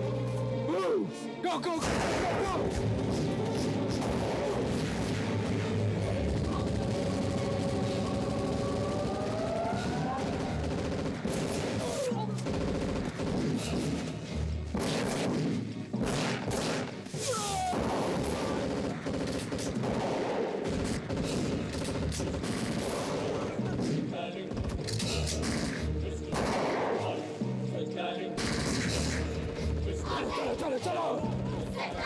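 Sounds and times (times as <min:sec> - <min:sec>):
dramatic music score: 0:00.0 - 0:32.0
rapid automatic gunfire: 0:01.8 - 0:17.0, 0:17.6 - 0:26.9, 0:28.4 - 0:29.9.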